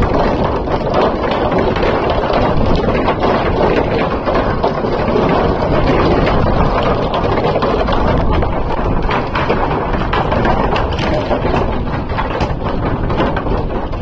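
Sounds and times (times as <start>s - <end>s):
board wheel rumbling: 0.0s - 14.0s
wind buffeting microphone: 0.0s - 14.0s.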